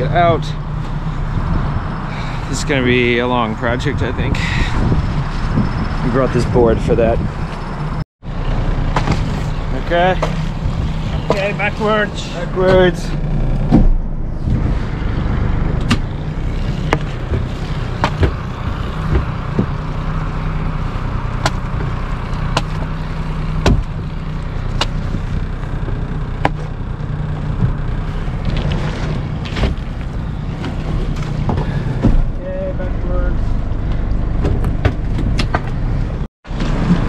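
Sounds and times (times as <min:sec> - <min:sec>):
boat motor running: 0:05.8 - 0:35.8.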